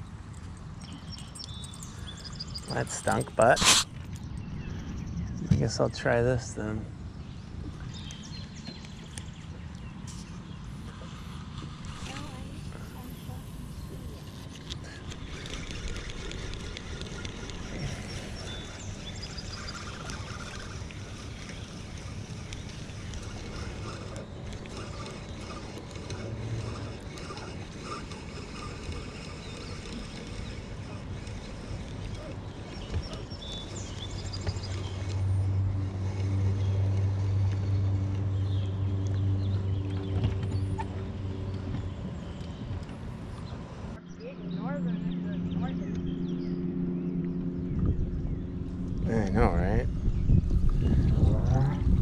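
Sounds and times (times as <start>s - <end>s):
boat motor humming: 0.0s - 52.0s
outdoor lake ambience: 0.0s - 52.0s.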